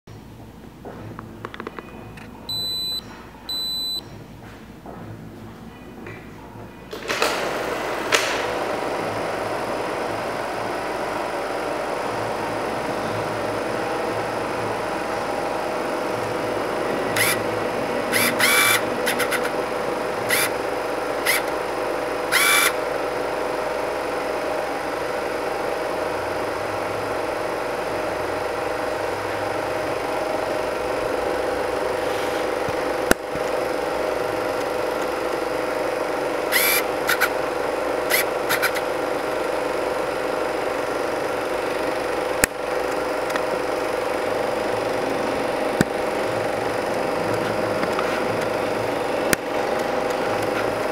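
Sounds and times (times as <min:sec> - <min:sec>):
film projector humming: 0:06.9 - 0:50.9.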